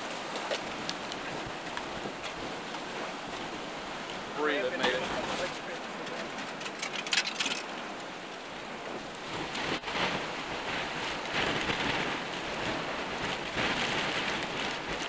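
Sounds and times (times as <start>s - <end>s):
driving rain on a vehicle: 0.0s - 15.0s
strong wind on a vehicle: 0.0s - 15.0s.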